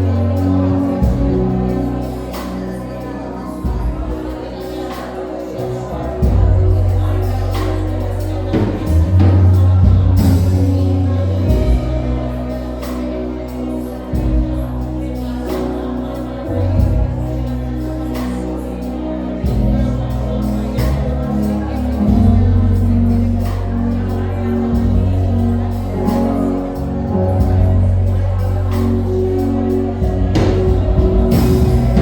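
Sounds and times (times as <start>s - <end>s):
deep bass notes: 0.0s - 32.0s
sustained chords: 0.0s - 32.0s.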